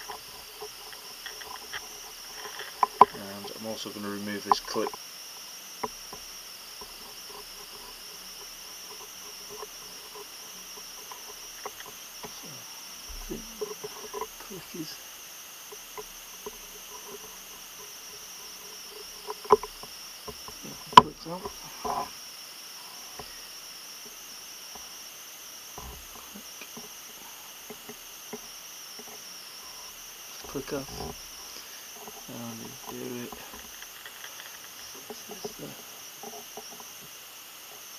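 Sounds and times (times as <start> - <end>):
faint high-pitched hiss: 0.0 - 37.9.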